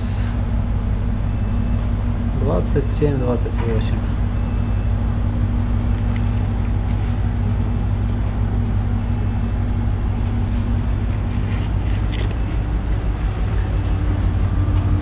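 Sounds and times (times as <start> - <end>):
ship machinery humming: 0.0 - 15.0.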